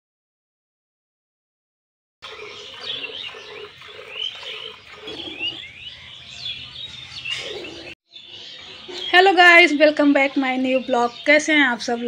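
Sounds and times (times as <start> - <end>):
small birds chirping: 2.2 - 12.0.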